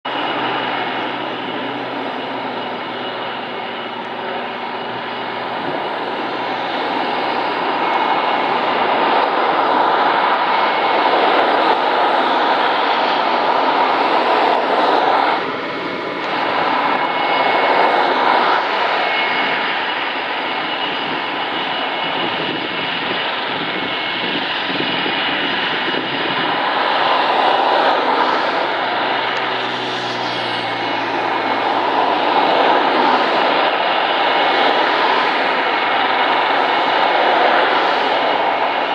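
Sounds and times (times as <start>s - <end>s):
propeller planes flying past: 0.1s - 38.9s.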